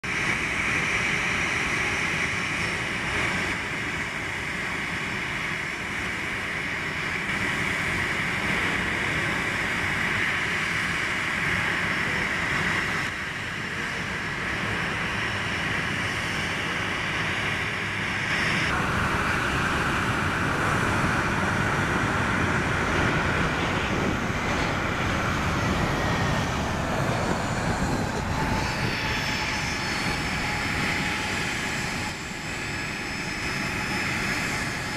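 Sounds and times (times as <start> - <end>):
jet engines whining: 0.1 - 34.9.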